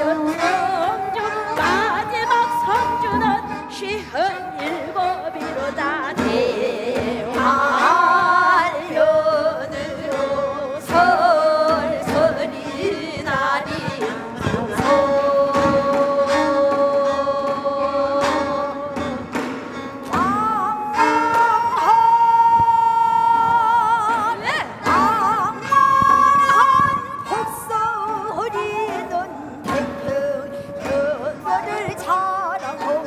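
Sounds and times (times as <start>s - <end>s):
bamboo flute: 0.0s - 33.0s
women singing folk song: 0.0s - 33.0s.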